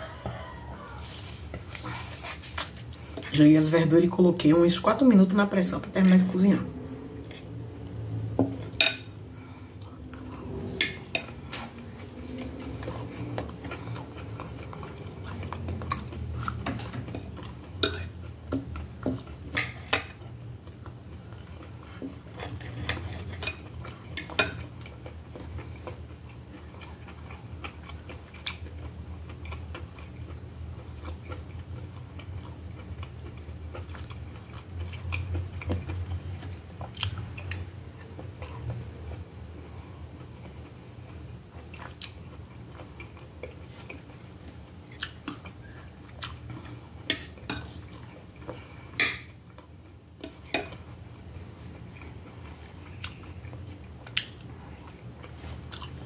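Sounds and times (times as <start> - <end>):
chewing: 9.4 - 56.0.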